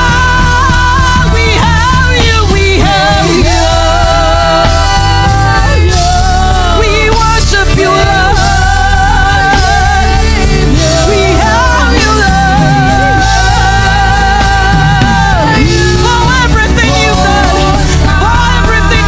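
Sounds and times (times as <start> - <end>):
band with heavy bass: 0.0 - 19.0.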